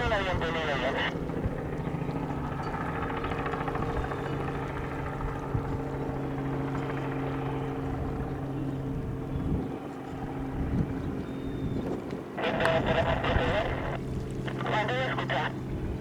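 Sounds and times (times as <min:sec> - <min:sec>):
helicopter engine and rotors drone: 0:00.0 - 0:16.0.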